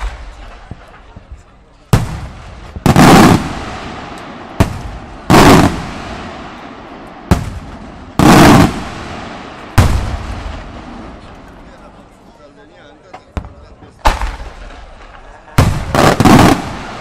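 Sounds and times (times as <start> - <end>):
firework cracks: 0.0 - 1.2, 1.9 - 11.4, 13.5 - 17.0
firework bangs echoing: 0.0 - 11.6, 13.3 - 17.0.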